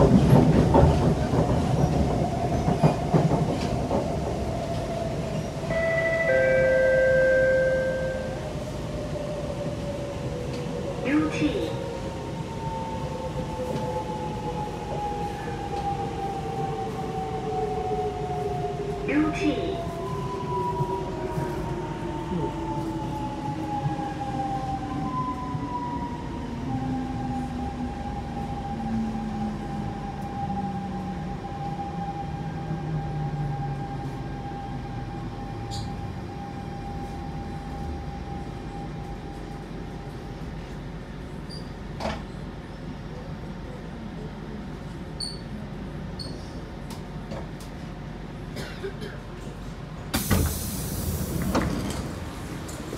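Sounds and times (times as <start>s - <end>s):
train wheel and track rumble: 0.0s - 52.9s.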